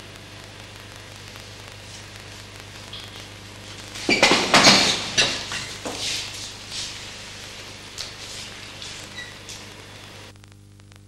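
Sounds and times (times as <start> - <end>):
loud crackling burst: 0.0 - 10.3.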